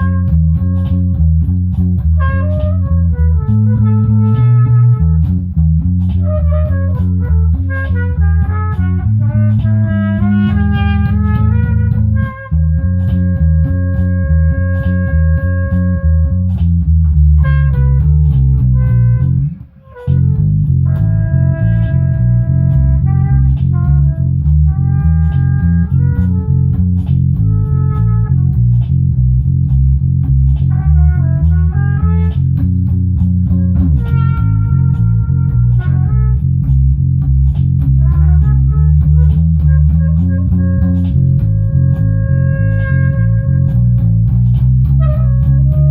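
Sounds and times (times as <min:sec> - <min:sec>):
guitar playing held notes: 0:00.0 - 0:45.9
steady bass line: 0:00.0 - 0:45.9.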